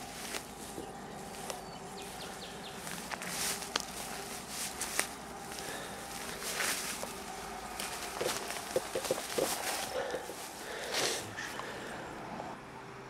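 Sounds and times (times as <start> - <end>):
footsteps through tall grass: 0.0 - 11.6
faint steady hum: 0.0 - 13.0.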